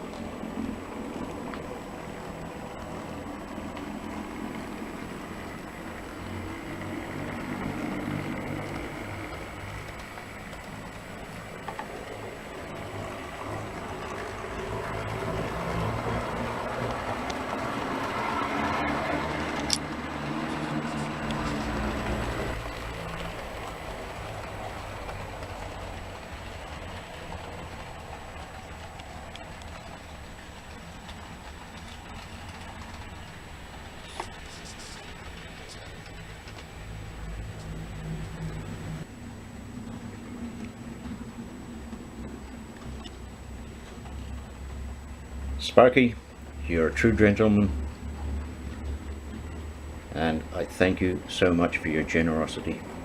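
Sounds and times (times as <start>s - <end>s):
model train motor hum: 0.0s - 53.0s
wheel noise on track: 0.0s - 53.0s.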